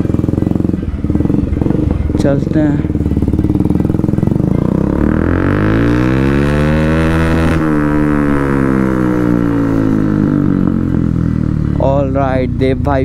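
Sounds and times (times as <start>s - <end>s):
motorcycle engine pulling away: 0.0s - 13.0s.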